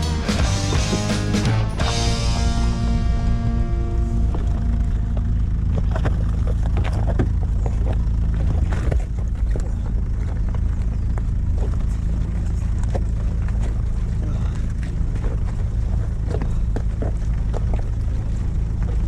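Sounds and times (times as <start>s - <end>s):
car engine running low: 0.0s - 19.0s.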